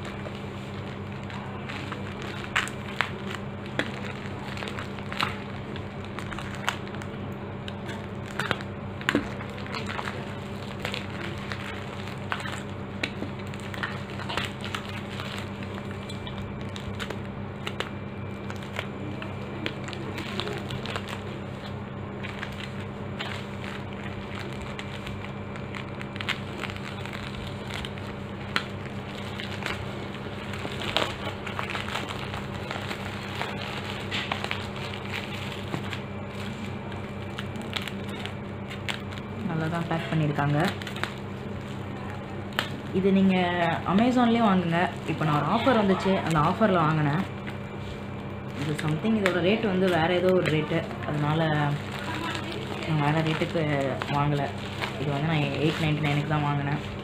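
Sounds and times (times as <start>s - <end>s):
plastic mailer crinkling: 0.0s - 57.0s.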